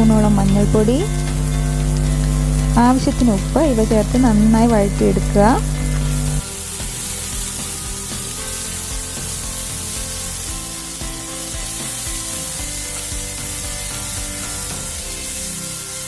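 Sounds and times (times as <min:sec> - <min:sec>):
background music: 0:00.0 - 0:16.0
vegetables sizzling in hot oil: 0:00.0 - 0:16.0.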